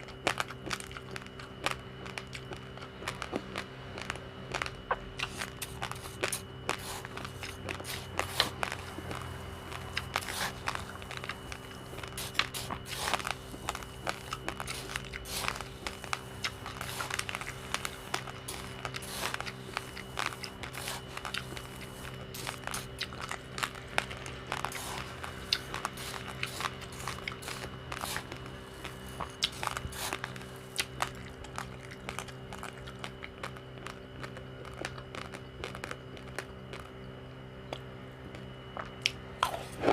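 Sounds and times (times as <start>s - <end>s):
person crunching rice grains: 0.0s - 36.9s, 37.7s - 39.9s
steady low hum: 0.0s - 39.9s.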